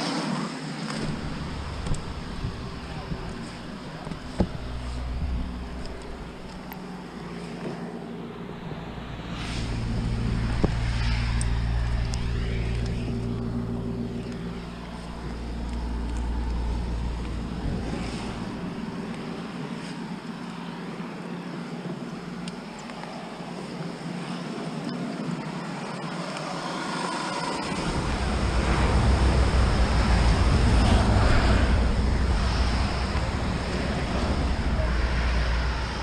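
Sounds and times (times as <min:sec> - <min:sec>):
passing rush of noise: 0:00.0 - 0:36.0
vehicle engine running: 0:00.8 - 0:36.0.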